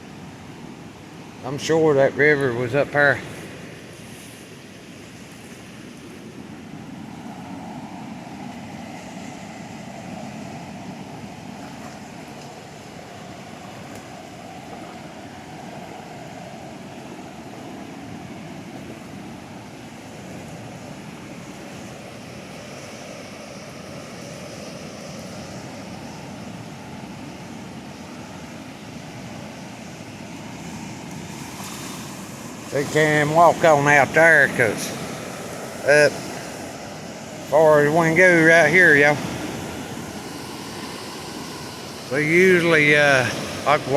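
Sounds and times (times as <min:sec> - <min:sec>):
river rushing: 0:00.0 - 0:43.9.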